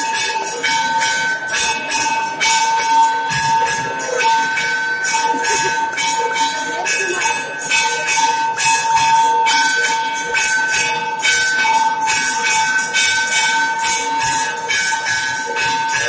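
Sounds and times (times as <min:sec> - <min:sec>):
cymbals striking: 0:00.0 - 0:16.0
temple bell ringing: 0:00.0 - 0:16.0.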